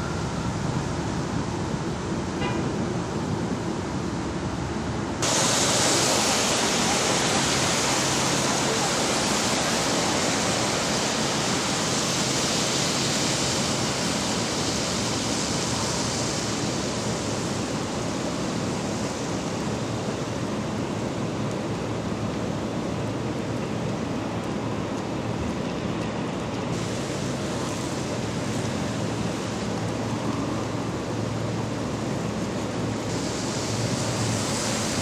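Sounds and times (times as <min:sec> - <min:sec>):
falling rain: 0:05.2 - 0:35.0
tyres swishing on wet pavement: 0:05.2 - 0:35.0.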